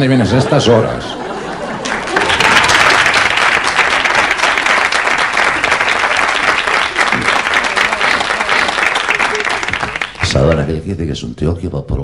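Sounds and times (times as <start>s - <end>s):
audience applauding: 0.5s - 10.8s.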